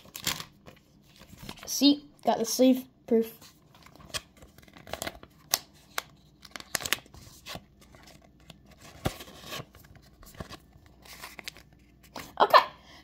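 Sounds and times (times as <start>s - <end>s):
plastic sleeve crinkling: 0.0s - 1.8s, 3.5s - 12.4s.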